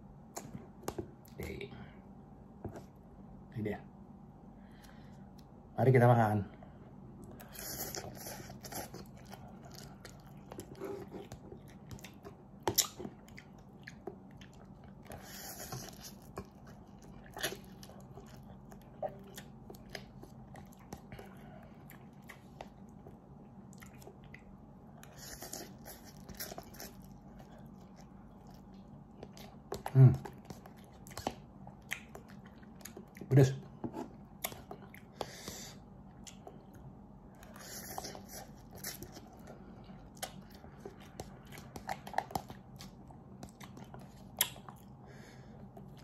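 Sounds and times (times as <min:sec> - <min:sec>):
quiet chewing: 0:07.1 - 0:46.0.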